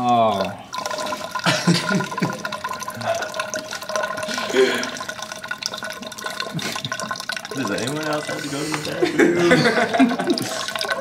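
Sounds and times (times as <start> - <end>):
water trickling into cylinder: 0.0 - 11.0.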